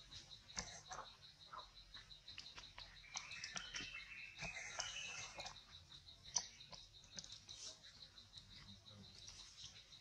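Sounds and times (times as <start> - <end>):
insect pulsing chirp: 0.0 - 10.0
small ticks: 0.2 - 9.9.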